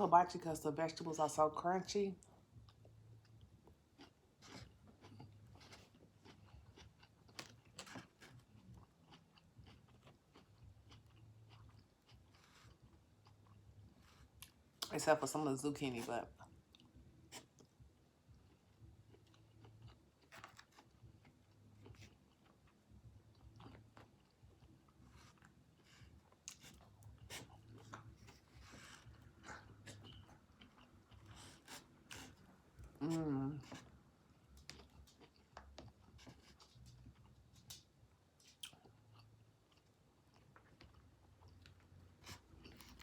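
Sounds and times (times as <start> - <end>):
faint chewing of crunchy food: 0.9 - 43.0.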